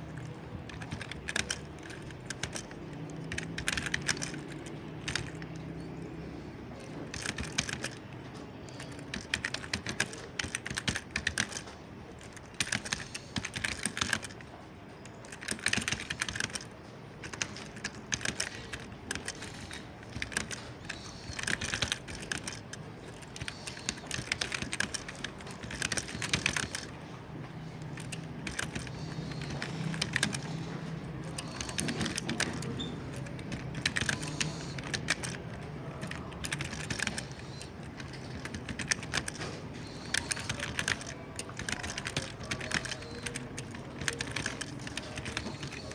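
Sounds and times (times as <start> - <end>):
keyboard typing: 0.0 - 45.9.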